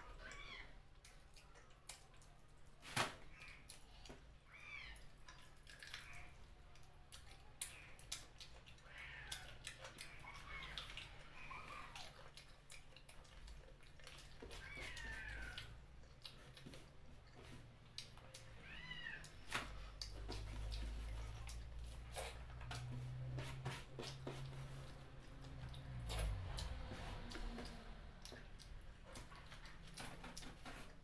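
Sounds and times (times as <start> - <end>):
wet chewing and sucking: 0.1 - 31.0.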